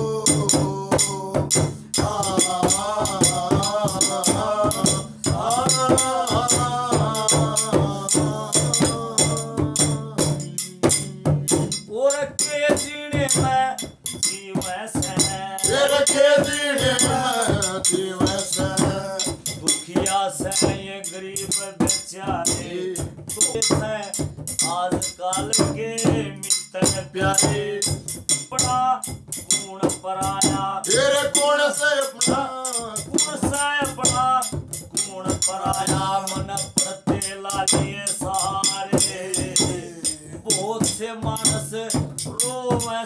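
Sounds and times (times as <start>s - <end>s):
rattling percussion strikes: 0.0s - 43.0s.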